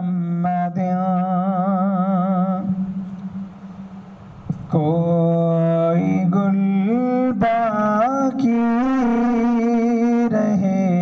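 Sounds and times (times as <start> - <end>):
man singing unaccompanied: 0.0 - 3.2, 4.5 - 11.0.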